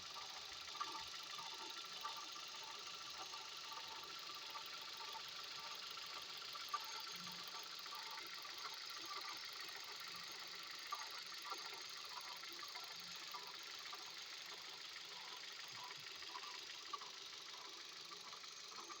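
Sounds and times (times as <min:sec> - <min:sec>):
car engine idling with ticking: 0:00.1 - 0:19.0.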